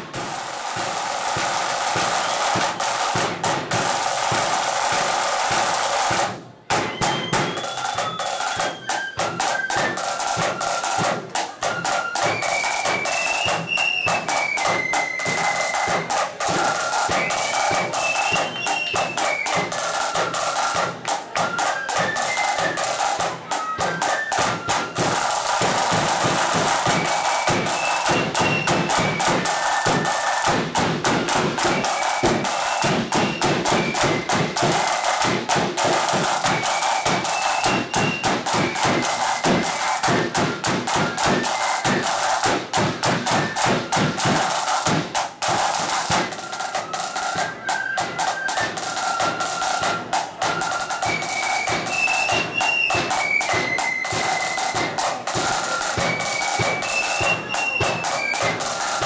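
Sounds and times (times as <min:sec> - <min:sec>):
side drums beating: 0:00.0 - 0:59.0
flutes playing melody: 0:00.2 - 0:59.0.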